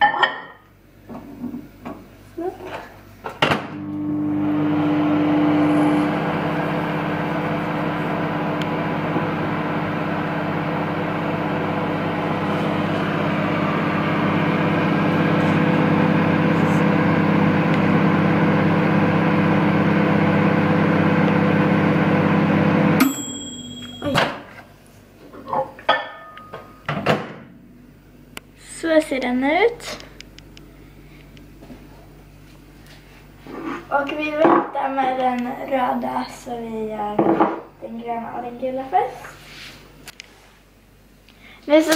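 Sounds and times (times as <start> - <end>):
microwave oven humming: 0.0 - 39.0.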